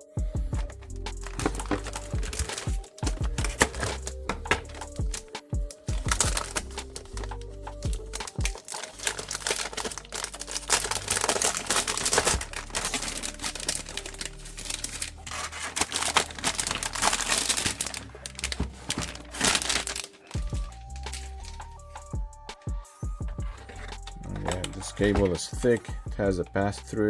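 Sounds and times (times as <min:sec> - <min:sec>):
packaging crinkling and rustling: 0:00.0 - 0:22.2, 0:23.1 - 0:26.0
packaging tearing: 0:00.0 - 0:22.2, 0:23.5 - 0:25.8.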